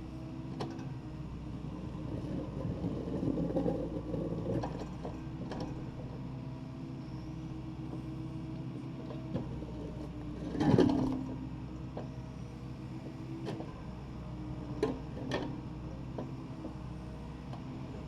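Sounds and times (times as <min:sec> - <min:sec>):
excavator diesel engine running: 0:00.1 - 0:18.0.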